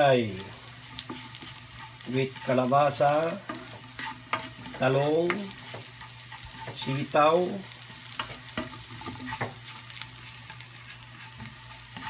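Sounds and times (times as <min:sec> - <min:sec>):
onion sizzling in oil: 0:00.0 - 0:12.0
spatula scraping a pan: 0:00.4 - 0:12.0.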